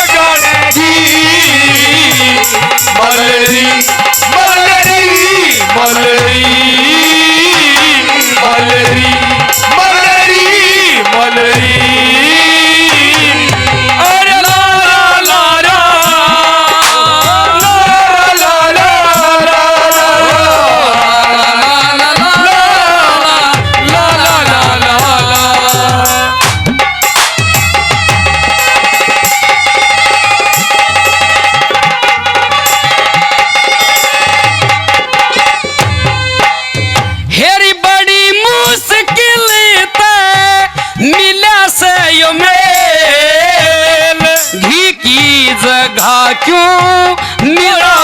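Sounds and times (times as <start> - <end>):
hand drum rhythm: 0.0 - 48.0
rattling percussion: 0.0 - 48.0.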